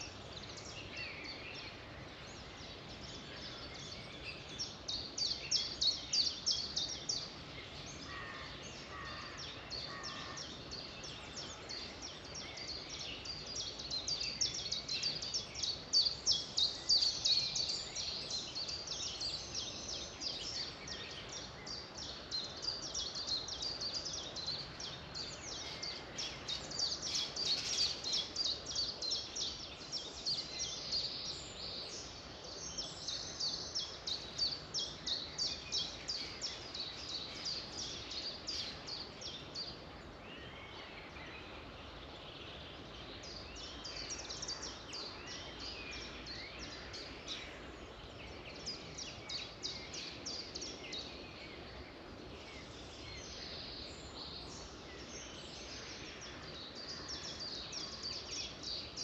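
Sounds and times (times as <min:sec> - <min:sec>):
small birds chirping: 0:00.0 - 0:59.0
steady background hiss: 0:00.0 - 0:59.0.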